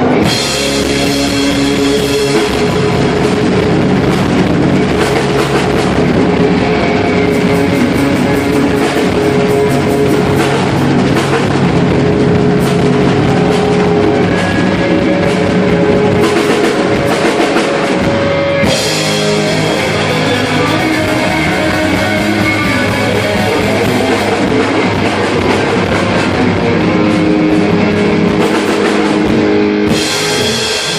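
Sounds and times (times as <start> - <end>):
drum kit: 0.0 - 30.9
electric guitar solo: 0.0 - 30.9.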